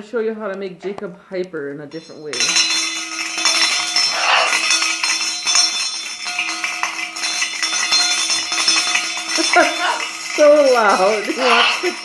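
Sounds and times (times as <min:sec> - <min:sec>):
metal objects jangling: 0:01.9 - 0:12.0.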